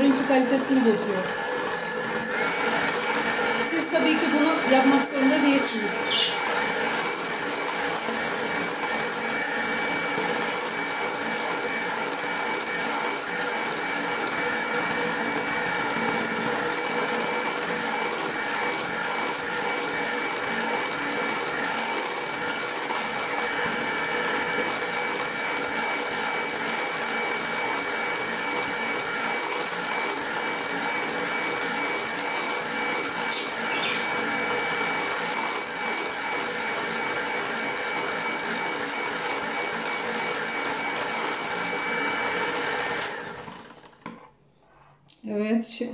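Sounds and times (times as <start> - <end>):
electric hand mixer whipping: 0.0 - 44.3.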